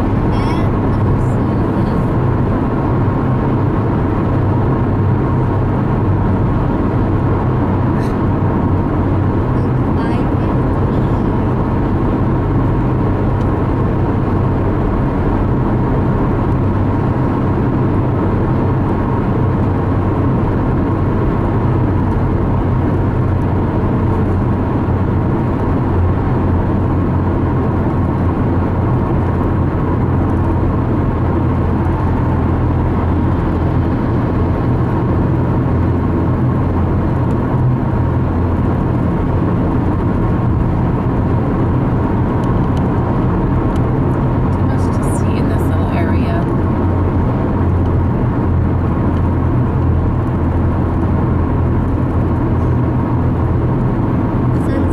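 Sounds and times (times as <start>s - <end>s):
car driving on highway from inside: 0.0s - 54.9s.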